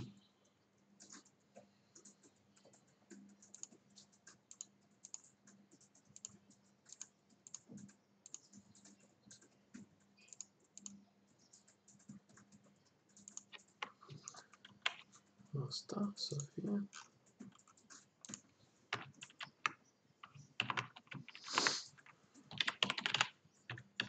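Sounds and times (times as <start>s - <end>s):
keyboard typing: 0.0s - 15.6s, 16.3s - 24.0s.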